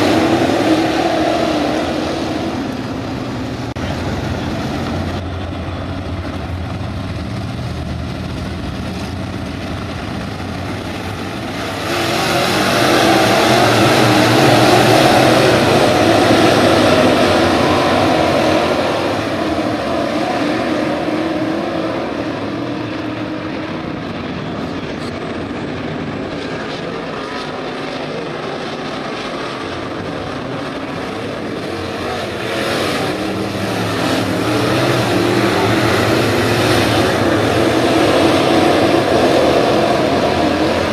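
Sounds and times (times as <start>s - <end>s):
race car engines running hard: 0.0s - 40.9s.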